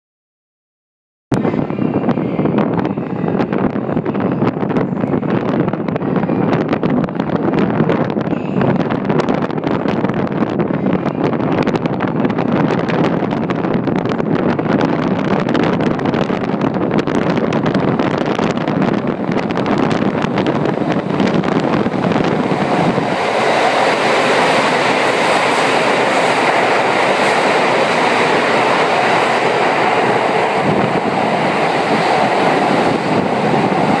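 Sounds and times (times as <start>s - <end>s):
train rushing rumble: 1.3s - 34.0s.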